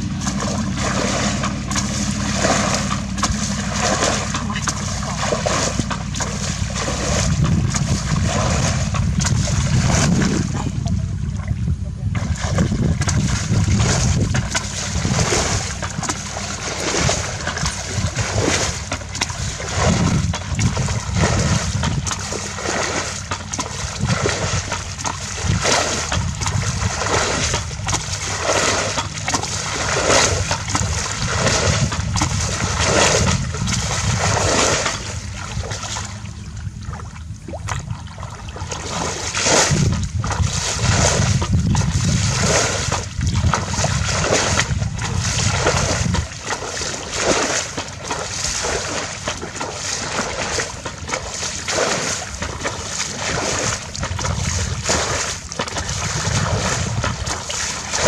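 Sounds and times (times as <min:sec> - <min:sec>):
hands splashing in shallow water: 0:00.0 - 0:10.6, 0:12.2 - 0:36.3, 0:36.9 - 0:58.0
steady low rumble: 0:00.0 - 0:58.0.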